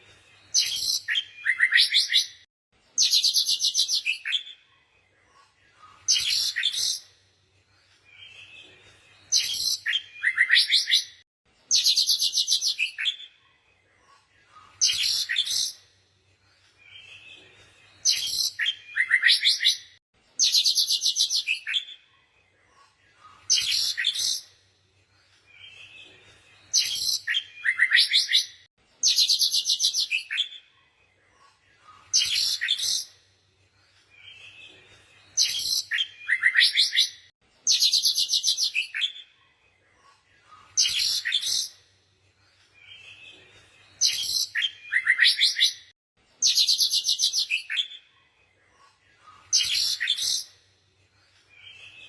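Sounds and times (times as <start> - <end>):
songbird chirping and trilling: 0.4 - 52.0.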